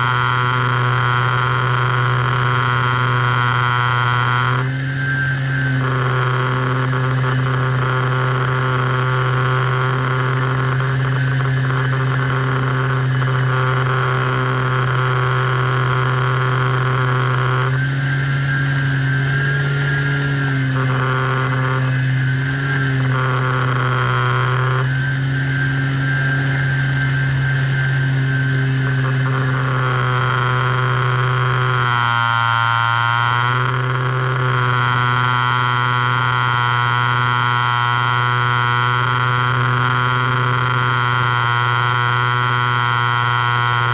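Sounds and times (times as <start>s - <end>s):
higher tone switching on and off: 0.0s - 43.9s
steady hum of held tones: 0.0s - 43.9s.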